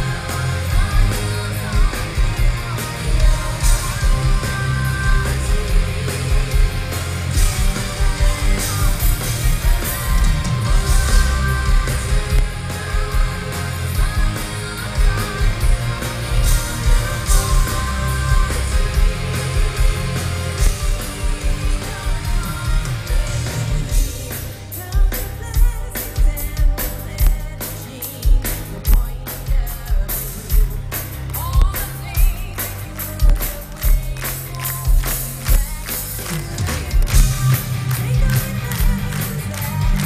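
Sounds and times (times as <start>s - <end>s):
bass guitar: 0.0s - 40.0s
distorted electric guitars: 0.0s - 40.0s
woman singing: 0.0s - 40.0s.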